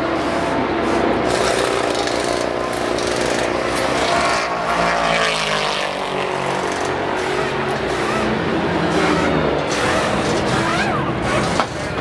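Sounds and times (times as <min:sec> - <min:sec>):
race car engines passing: 0:00.0 - 0:12.0
air impact wrenches rattling: 0:00.2 - 0:04.7, 0:06.4 - 0:12.0.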